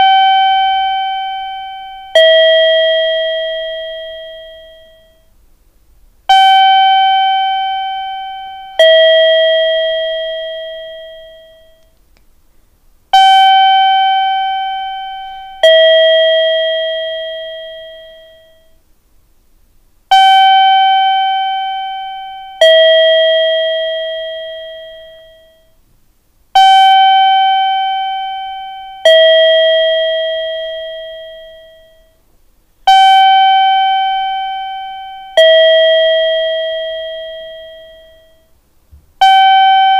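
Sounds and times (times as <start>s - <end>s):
two-note electronic chime: 0.0s - 5.3s, 6.3s - 11.9s, 13.2s - 18.8s, 20.1s - 25.8s, 26.6s - 32.2s, 32.9s - 38.5s, 39.2s - 39.9s.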